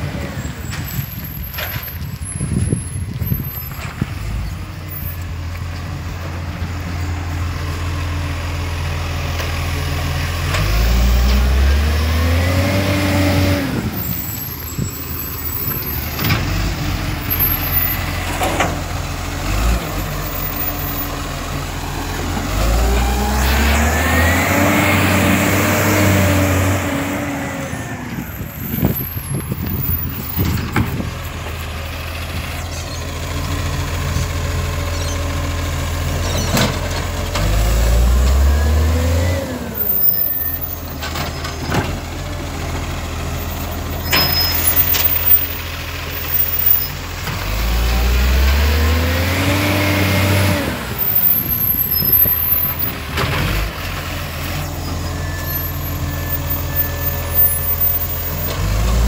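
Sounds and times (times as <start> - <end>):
garbage truck engine revving: 5.9 - 59.0.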